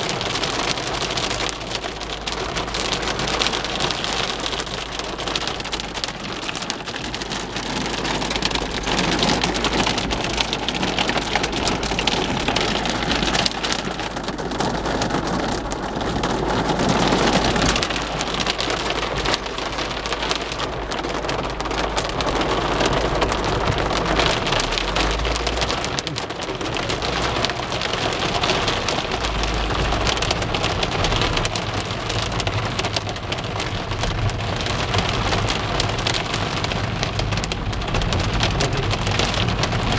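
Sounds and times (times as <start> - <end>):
hail and rain on car roof: 0.0 - 39.9.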